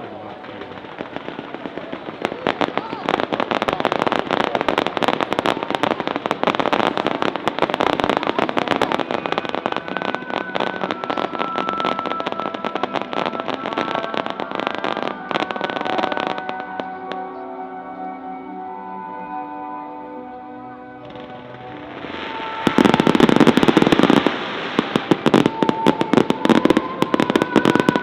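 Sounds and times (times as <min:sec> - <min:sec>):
fireworks crackling: 0:00.0 - 0:28.0
held musical tones: 0:00.0 - 0:28.0.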